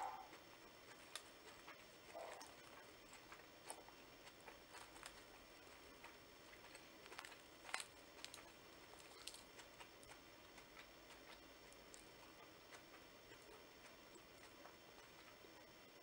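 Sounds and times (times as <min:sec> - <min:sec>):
crusty bread crackling in hands: 0:00.3 - 0:16.0.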